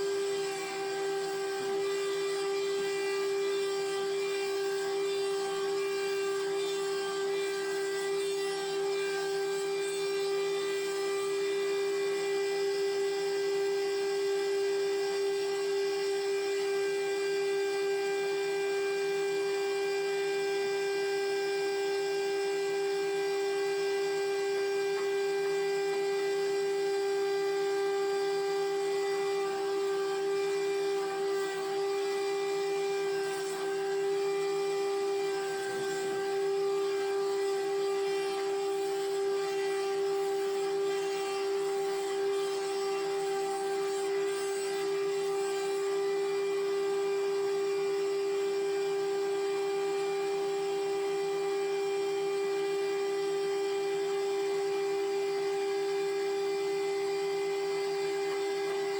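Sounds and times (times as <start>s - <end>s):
sawmill machinery high-pitched whine: 0.0s - 58.9s.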